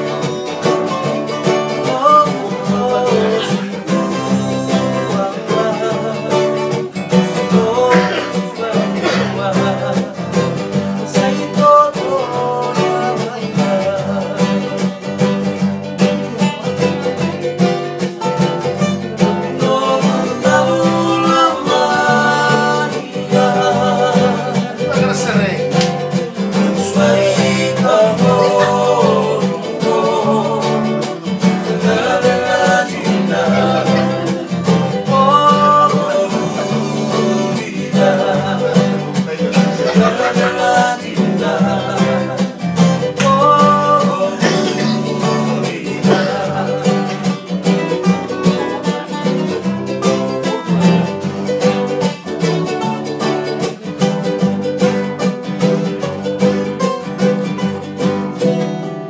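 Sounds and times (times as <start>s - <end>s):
men singing: 0.0s - 58.0s
acoustic guitars strummed: 0.0s - 59.0s.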